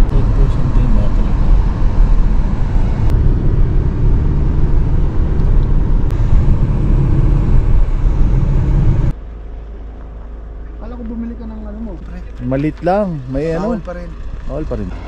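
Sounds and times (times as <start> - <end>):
car interior road noise: 0.0 - 15.0.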